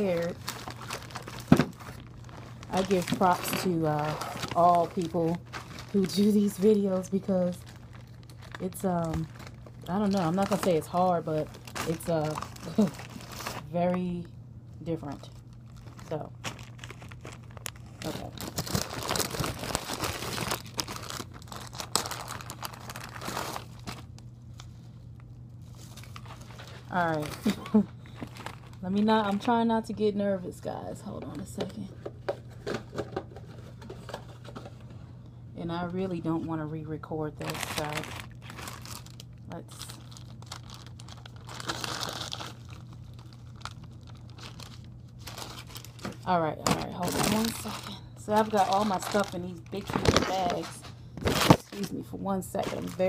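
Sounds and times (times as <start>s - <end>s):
plastic packaging crinkling: 0.0s - 14.3s, 15.0s - 29.8s, 37.3s - 51.9s, 52.5s - 53.0s
steady low hum: 0.0s - 53.0s.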